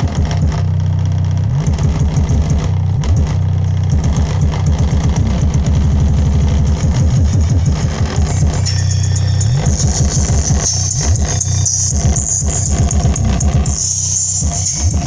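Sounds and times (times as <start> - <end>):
bass-heavy music through speaker: 0.0 - 15.0.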